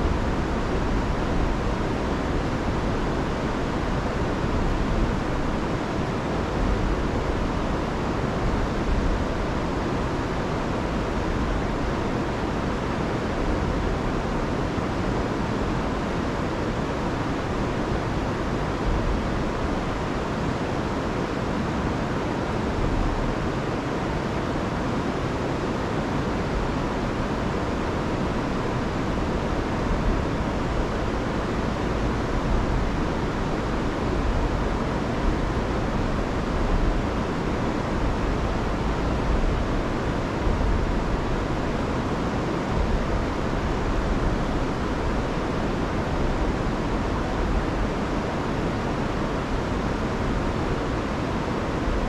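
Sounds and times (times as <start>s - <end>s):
river rushing over waterfalls: 0.0s - 52.0s.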